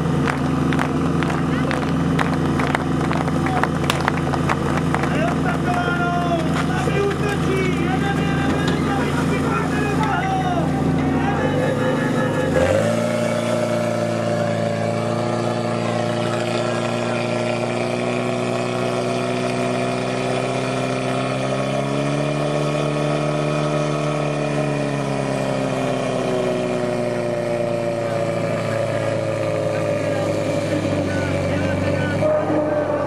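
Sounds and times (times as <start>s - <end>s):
pump engine running at high revs: 0.0s - 33.0s.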